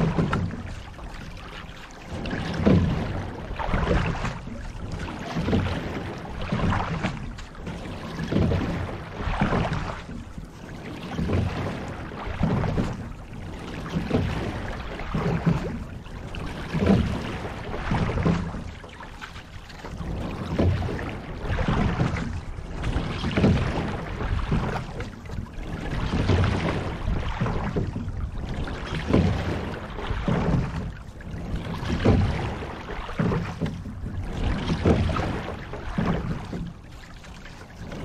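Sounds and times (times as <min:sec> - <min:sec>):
water rushing along hull: 0:00.0 - 0:38.0.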